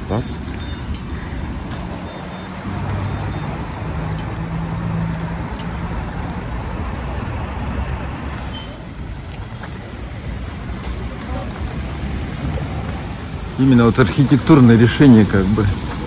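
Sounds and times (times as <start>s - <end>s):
street traffic: 0.0s - 16.0s
vehicle engine humming: 0.0s - 16.0s.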